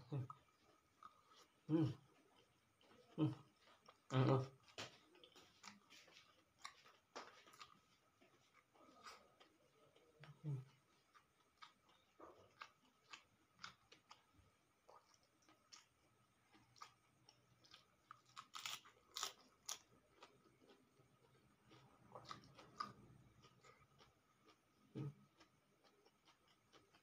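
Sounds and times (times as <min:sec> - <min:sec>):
person chewing cabbage crunching: 0:00.1 - 0:27.0.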